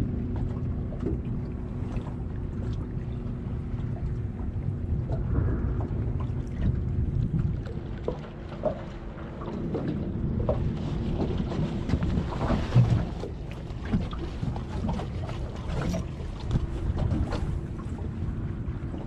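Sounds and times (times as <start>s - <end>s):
water slapping against boat hull: 0.0s - 19.0s
wind buffeting microphone: 0.0s - 19.0s.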